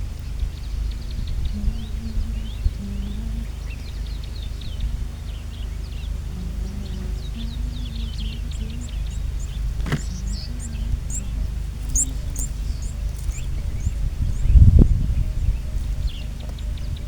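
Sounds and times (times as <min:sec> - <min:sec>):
low thump-like rumble: 0:00.0 - 0:17.0
small birds chirping: 0:00.0 - 0:17.0
steady low rumble: 0:00.0 - 0:17.0.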